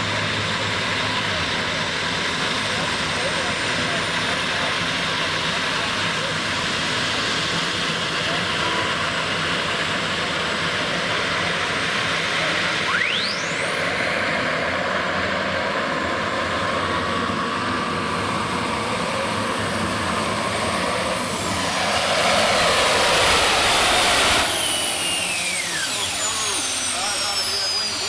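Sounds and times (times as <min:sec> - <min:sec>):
turbine engine whine and roar: 0:00.0 - 0:28.0
turbines winding down: 0:00.0 - 0:28.0.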